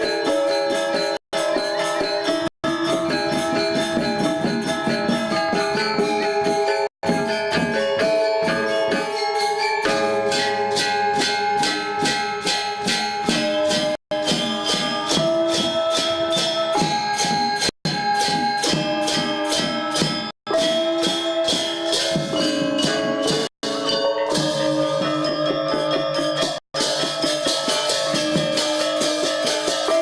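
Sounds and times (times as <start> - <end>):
gamelan ensemble playing: 0.0 - 30.0.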